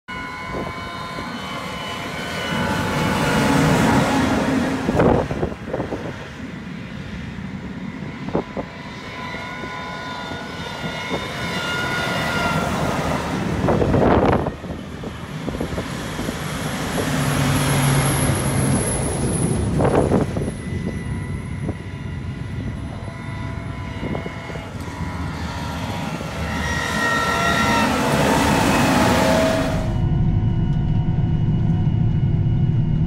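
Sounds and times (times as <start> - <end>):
combine harvesters driving by: 0.5 - 30.8.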